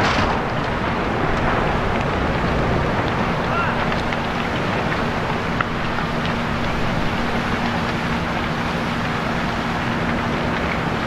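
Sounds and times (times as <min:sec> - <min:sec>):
constant low hum: 0:00.0 - 0:11.0
steady rushing roar: 0:00.0 - 0:11.0.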